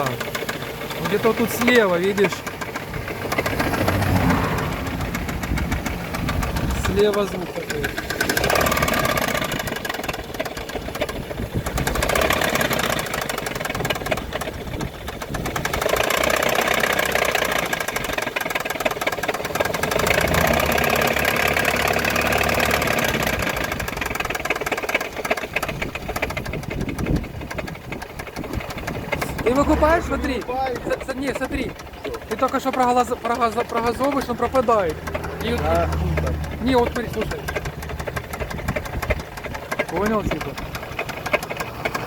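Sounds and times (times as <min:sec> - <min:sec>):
car engine revving: 0:00.0 - 0:42.0
rapid engine knocking: 0:00.0 - 0:42.0.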